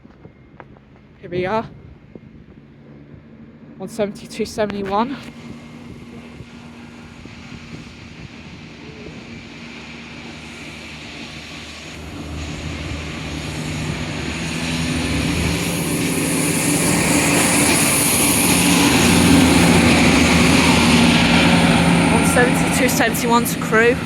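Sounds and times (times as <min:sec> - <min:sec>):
diesel train engines droning: 0:00.0 - 0:24.0.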